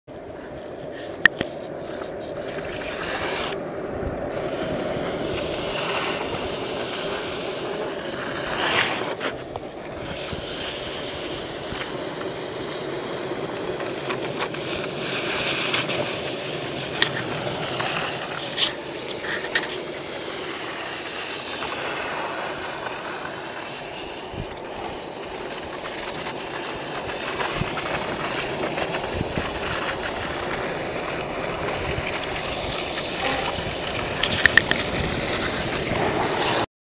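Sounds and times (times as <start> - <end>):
skateboard wheels rolling on asphalt: 0.1 - 36.7
wind rushing over microphone: 0.1 - 36.7.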